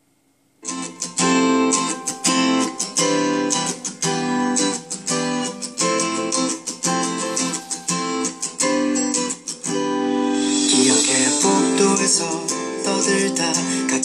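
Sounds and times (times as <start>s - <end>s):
pop song with strummed guitar: 0.6s - 14.0s.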